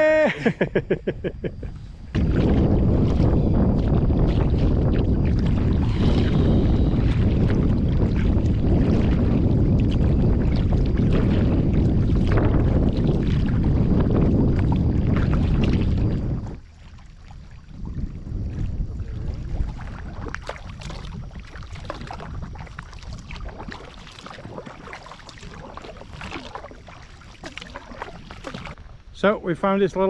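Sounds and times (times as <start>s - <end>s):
wind buffeting microphone: 0.0s - 30.0s
paddle splashes and drips: 1.6s - 29.3s.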